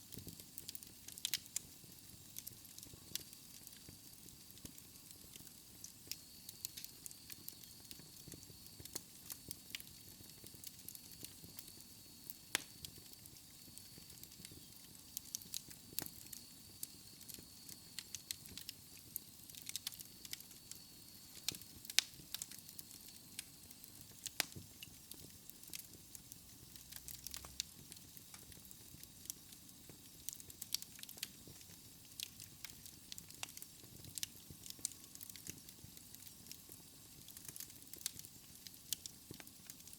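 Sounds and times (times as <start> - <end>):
faint steady hiss: 0.0 - 39.9
logs crackling in fireplace: 0.0 - 39.9
sharp pops of burning wood: 0.1 - 39.9.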